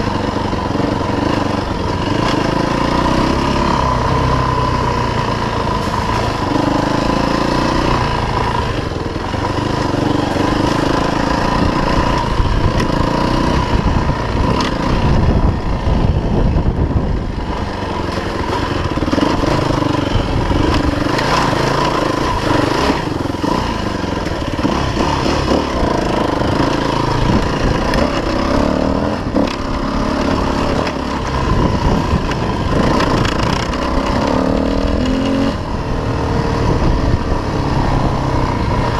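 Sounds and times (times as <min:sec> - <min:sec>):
off-road motorcycle engine revving: 0:00.0 - 0:38.9.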